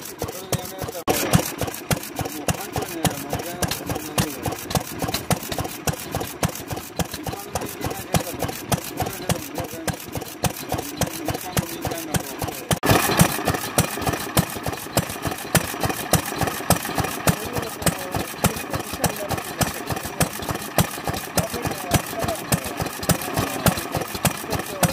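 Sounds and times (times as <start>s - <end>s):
stationary engine running: 0.0s - 24.9s
valve-gear clatter: 0.0s - 24.9s.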